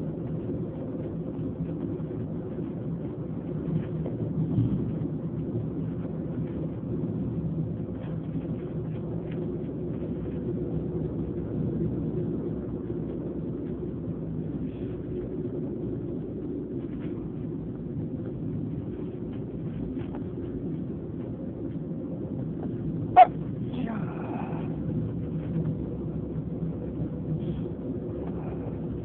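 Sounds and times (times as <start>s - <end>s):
train running: 0.0s - 29.0s.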